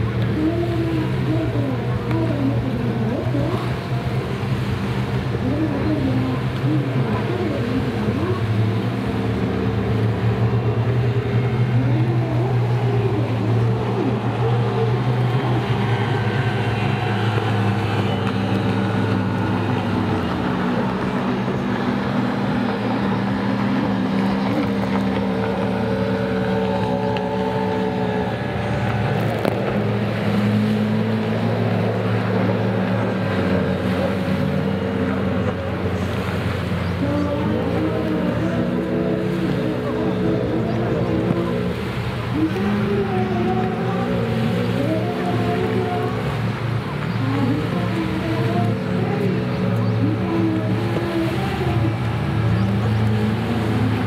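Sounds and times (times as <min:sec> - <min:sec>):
jet ski engines droning: 0:00.0 - 0:54.0.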